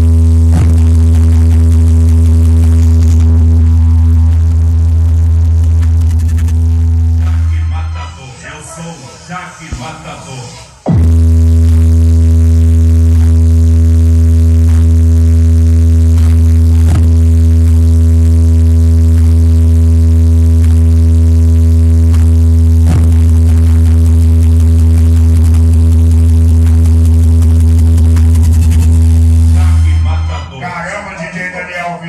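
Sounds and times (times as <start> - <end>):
deep sub-bass tone: 0.0 - 8.0, 10.8 - 30.2.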